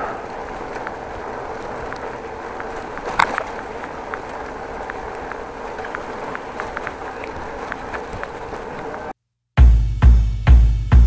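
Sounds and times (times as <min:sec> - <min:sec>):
bicycle tyre and road noise: 0:00.0 - 0:09.2.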